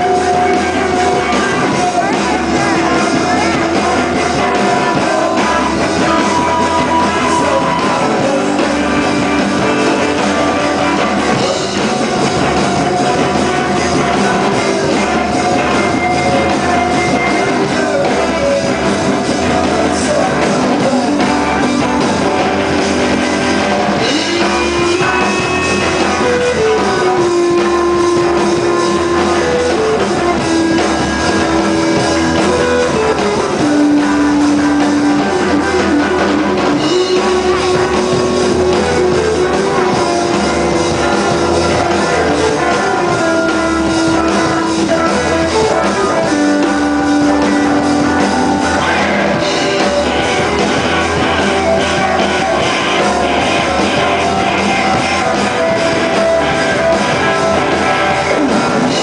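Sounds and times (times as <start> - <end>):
rock band playing live: 0.0 - 59.0
sliding lead guitar notes: 0.0 - 59.0.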